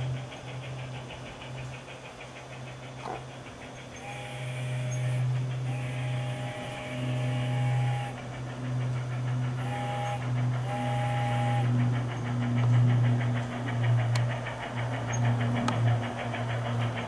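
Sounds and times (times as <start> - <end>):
low hum: 0.0 - 17.0
steam locomotive chuffing: 0.0 - 17.0.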